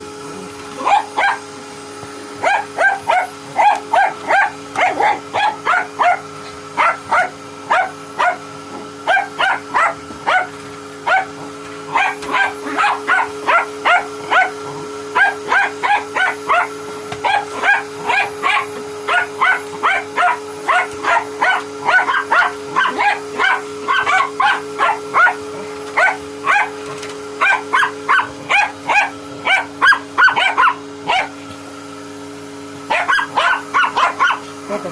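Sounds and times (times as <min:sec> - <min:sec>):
vacuum cleaner humming: 0:00.0 - 0:34.9
dog barking: 0:00.8 - 0:01.5, 0:02.4 - 0:08.4, 0:09.0 - 0:26.8, 0:27.4 - 0:31.4, 0:32.9 - 0:34.5.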